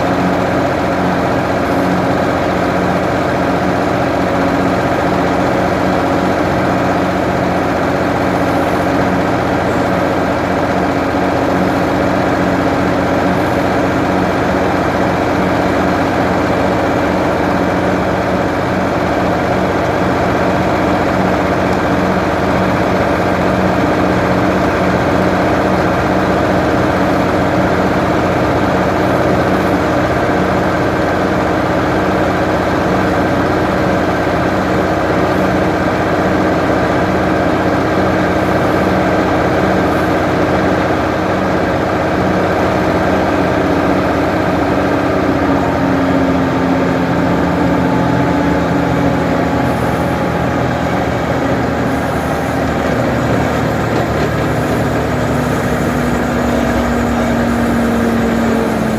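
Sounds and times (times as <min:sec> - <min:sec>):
backhoe engine running: 0:00.0 - 0:58.9.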